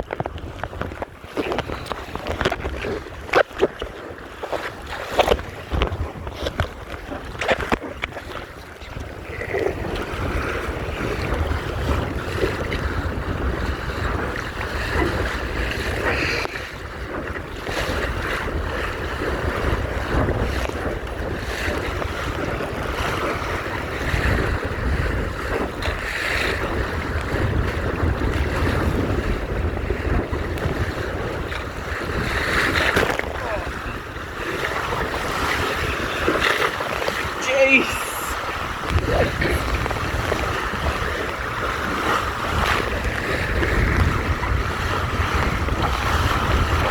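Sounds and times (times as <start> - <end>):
water splashing against hull: 0.0 - 46.9
wind buffeting microphone: 0.0 - 46.9.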